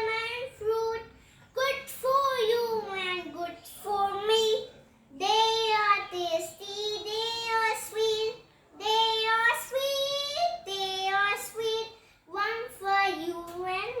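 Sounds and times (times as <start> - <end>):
girl singing unaccompanied: 0.0 - 14.0.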